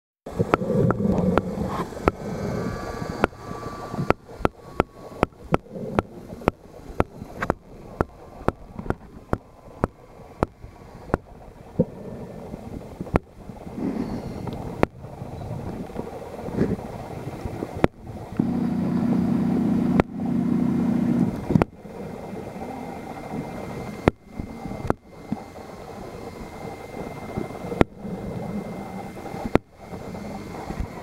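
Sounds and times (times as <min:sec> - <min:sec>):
sharp underwater clicks: 0:00.3 - 0:19.1, 0:19.8 - 0:20.2, 0:21.1 - 0:21.8, 0:22.5 - 0:28.0
muffled underwater rumble: 0:00.3 - 0:31.0.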